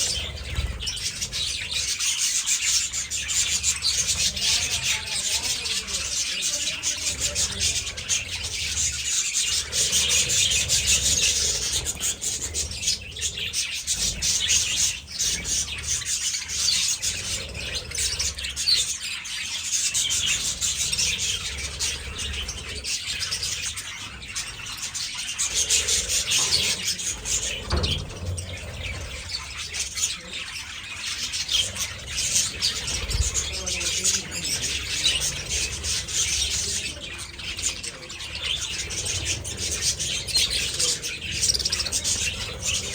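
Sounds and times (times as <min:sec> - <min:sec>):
budgies chattering: 0:00.0 - 0:42.9.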